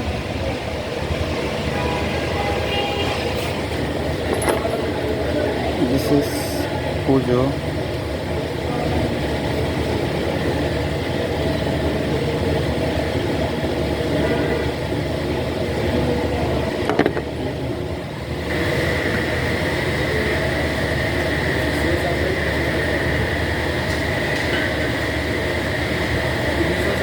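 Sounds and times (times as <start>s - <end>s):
car engine idling: 0.0s - 27.0s
steady high whine: 3.2s - 27.0s.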